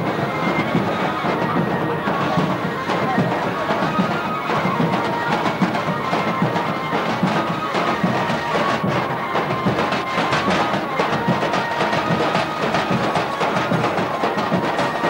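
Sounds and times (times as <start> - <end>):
drums beating: 0.0 - 15.0
held wind instrument notes: 0.0 - 15.0.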